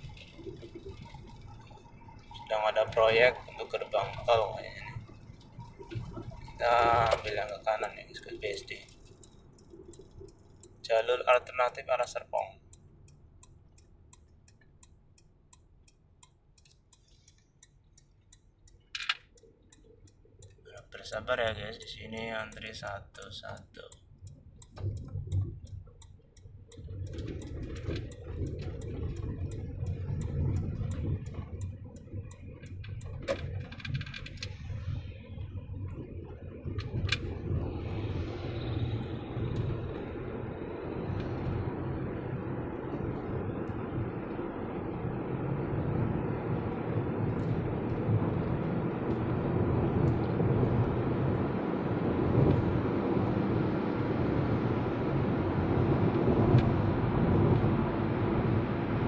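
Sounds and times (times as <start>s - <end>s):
engine and tyre hum: 0.0s - 59.0s
turn signal ticking: 0.0s - 59.0s.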